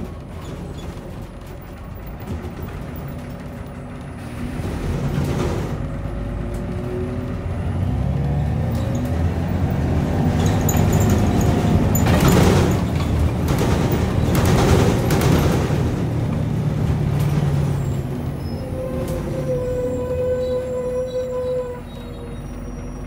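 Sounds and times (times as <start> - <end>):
bus engine under load: 0.0 - 23.0.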